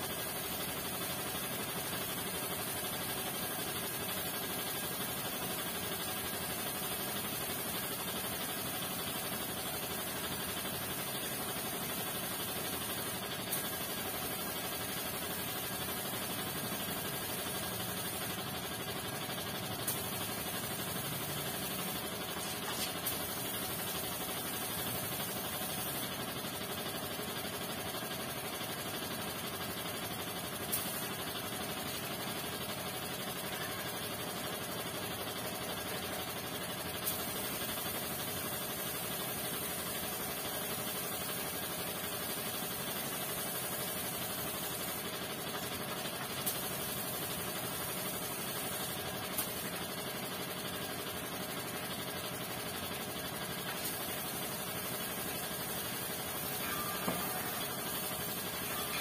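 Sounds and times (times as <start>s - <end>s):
machine hum with hiss: 0.0s - 59.0s.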